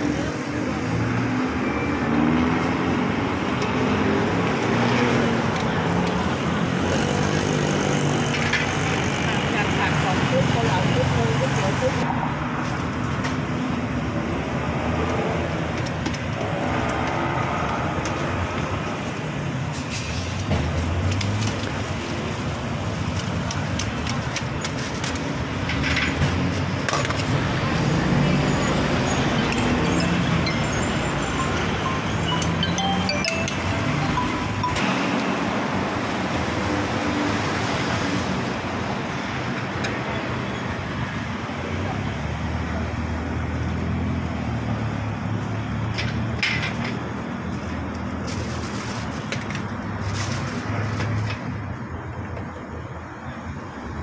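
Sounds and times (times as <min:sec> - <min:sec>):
roadside traffic rumble: 0:00.0 - 0:54.0.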